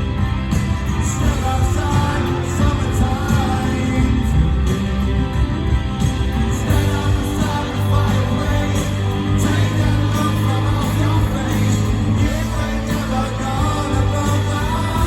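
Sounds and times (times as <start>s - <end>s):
rock band playing: 0.0s - 15.0s
steady bass line: 0.0s - 15.0s
person singing lead vocal: 0.9s - 15.0s.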